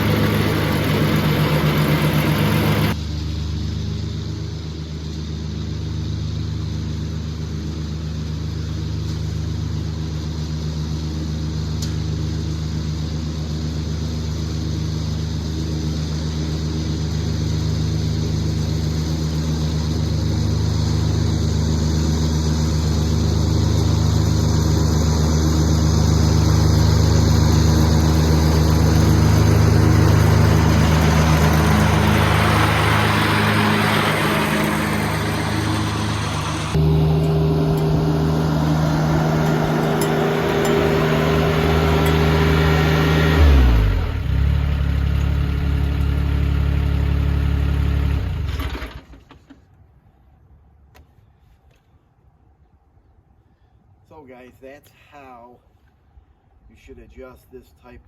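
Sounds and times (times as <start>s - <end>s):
tractor diesel engine running: 0.0s - 49.5s.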